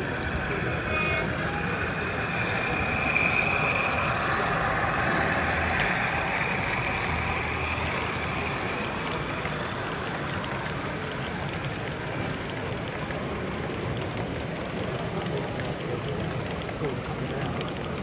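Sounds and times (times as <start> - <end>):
model train running: 0.0 - 18.0.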